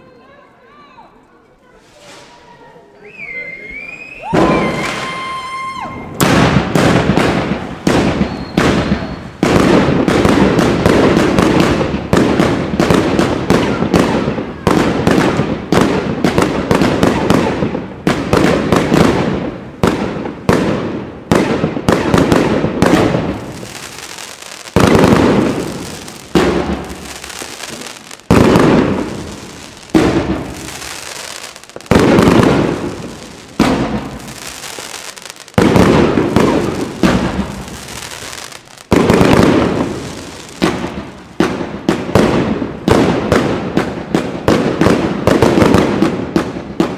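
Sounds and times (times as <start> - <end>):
fireworks bangs: 1.8 - 46.9.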